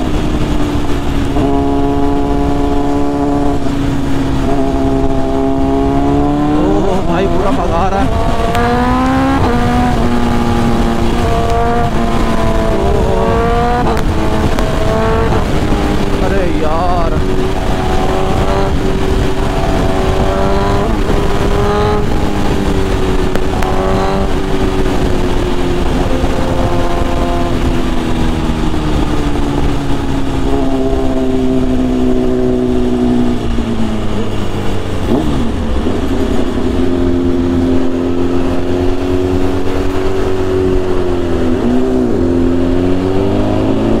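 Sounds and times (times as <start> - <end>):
motorcycle engine running: 0.0 - 44.0
wind and road noise: 0.0 - 44.0.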